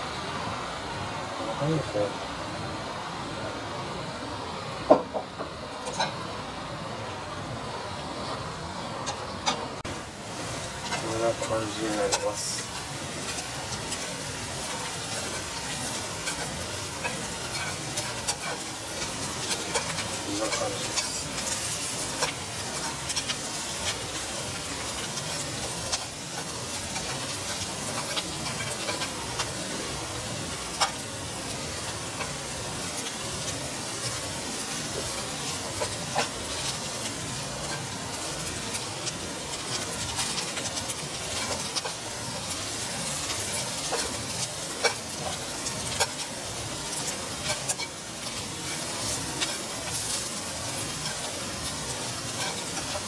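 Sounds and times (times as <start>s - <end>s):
vegetables sizzling in frying pan: 0.0s - 53.0s.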